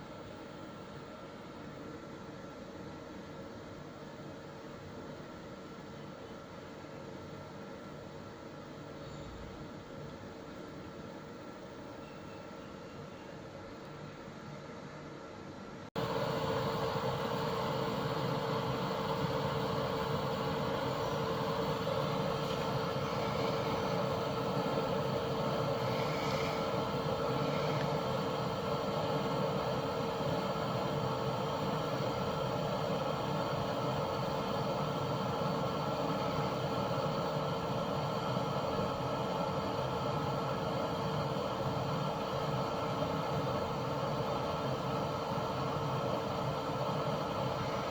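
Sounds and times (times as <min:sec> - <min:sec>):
inverter electrical hum: 0:00.0 - 0:47.9.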